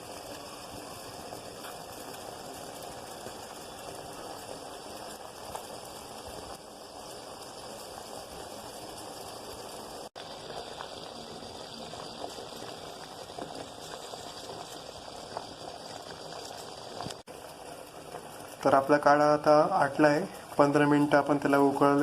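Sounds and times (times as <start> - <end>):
pot of water boiling: 0.0 - 22.0.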